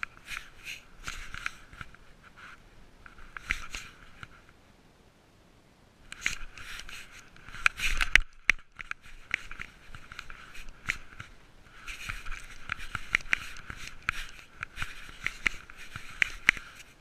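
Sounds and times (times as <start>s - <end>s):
harness rustling against camera: 0.0s - 4.6s, 6.1s - 17.0s.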